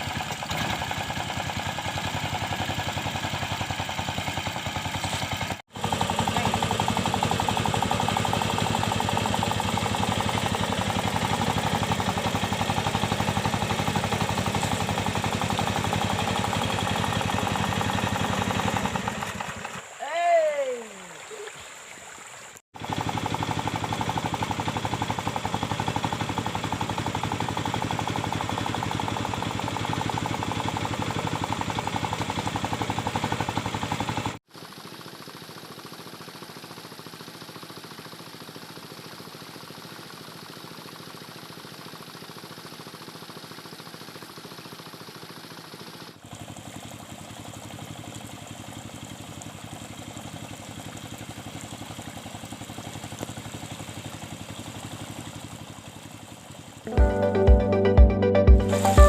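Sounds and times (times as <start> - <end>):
small engine running: 0.0 - 20.7, 21.8 - 59.0.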